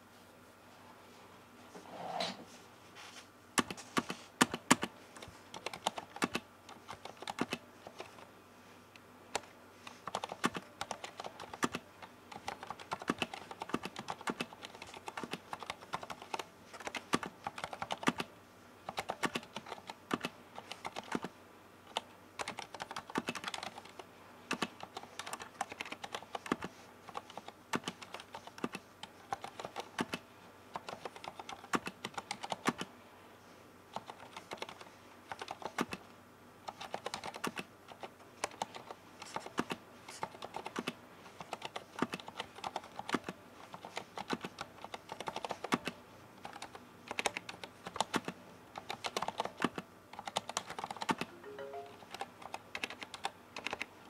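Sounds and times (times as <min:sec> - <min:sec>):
muted mechanical keyboard typing: 0:03.6 - 0:08.3, 0:09.3 - 0:32.9, 0:33.9 - 0:54.0.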